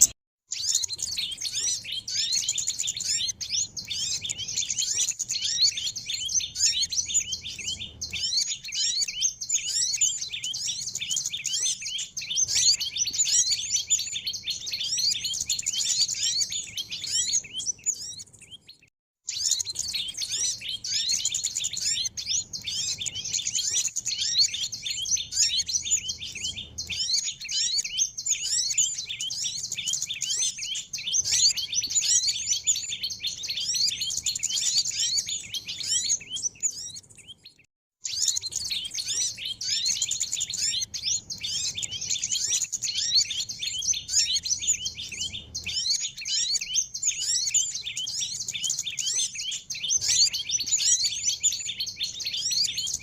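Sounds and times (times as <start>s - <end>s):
songbirds chirping and twittering: 0.0s - 53.0s.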